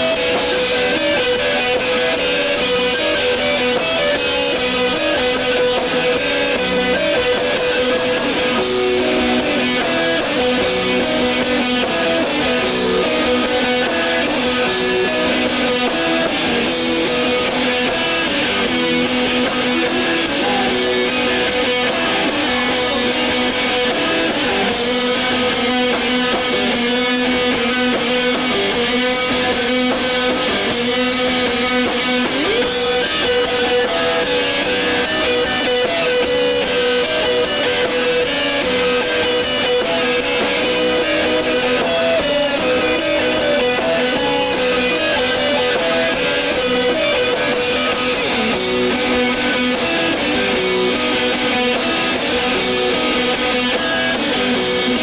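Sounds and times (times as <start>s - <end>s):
drums and cymbals beat: 0.0s - 55.0s
electric guitars strumming: 0.0s - 55.0s.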